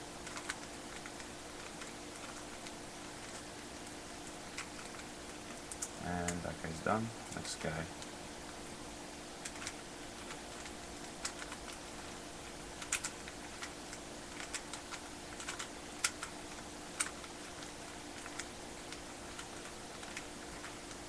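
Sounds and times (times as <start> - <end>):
puzzle cube layers clicking: 0.2 - 6.4, 9.4 - 12.1, 12.7 - 21.0.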